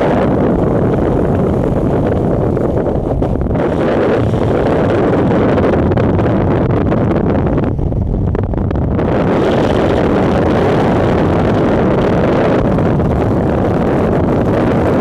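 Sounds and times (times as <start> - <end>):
freefall wind buffeting microphone: 0.0 - 15.0.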